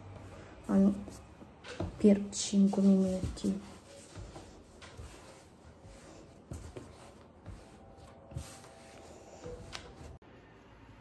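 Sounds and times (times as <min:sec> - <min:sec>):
light rubbing and shuffling: 0:00.1 - 0:10.2.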